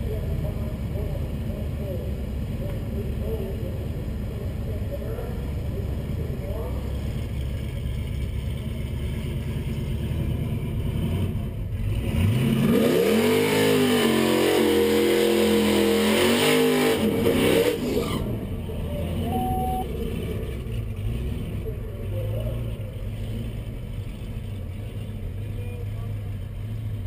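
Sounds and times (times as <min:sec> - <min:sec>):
car engine revving: 0:03.8 - 0:27.0.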